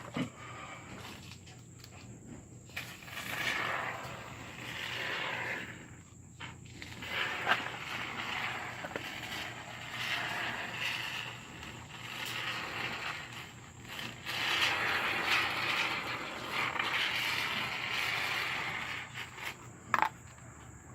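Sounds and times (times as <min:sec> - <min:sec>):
aerosol foam can hissing and sputtering: 0:02.7 - 0:20.2.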